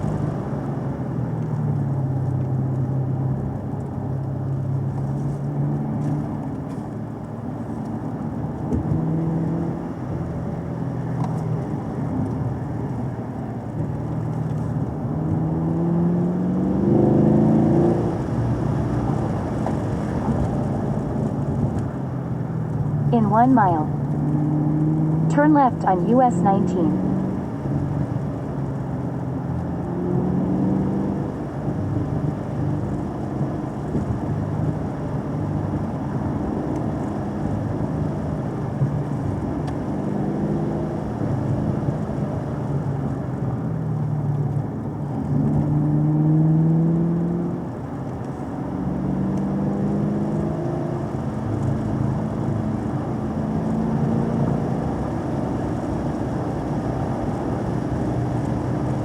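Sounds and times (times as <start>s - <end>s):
road noise: 0.0s - 59.0s
vehicle engine accelerating: 0.0s - 59.0s.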